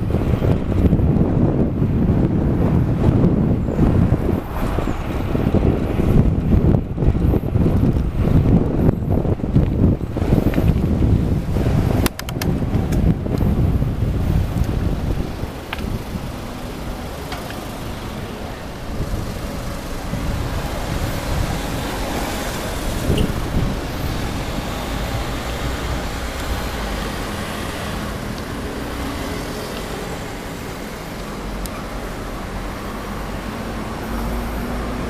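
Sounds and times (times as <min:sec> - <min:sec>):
passing cars rumbling: 0:00.0 - 0:35.0
wind gusts on microphone: 0:00.0 - 0:35.0.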